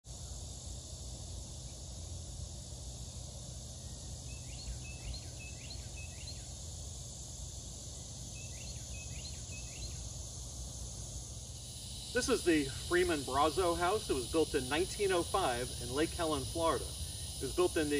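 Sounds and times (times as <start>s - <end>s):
high insect drone: 0.0s - 17.9s.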